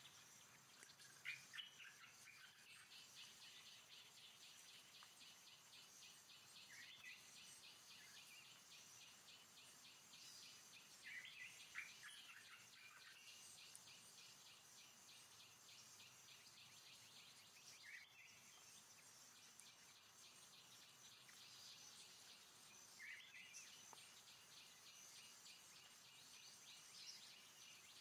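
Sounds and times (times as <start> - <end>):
insect pulsing chirp: 0.0 - 28.0.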